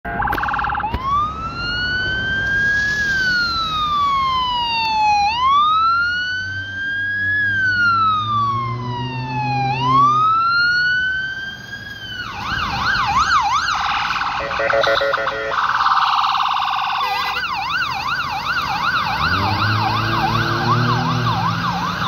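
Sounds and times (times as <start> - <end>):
ambulance siren wailing: 0.0 - 22.0
road traffic rumbling: 0.0 - 22.0.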